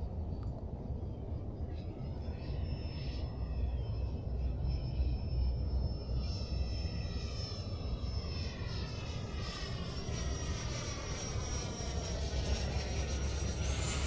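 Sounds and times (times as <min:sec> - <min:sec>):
electric jet fan whine: 0:00.0 - 0:14.0
wind rumble on microphone: 0:00.0 - 0:14.0.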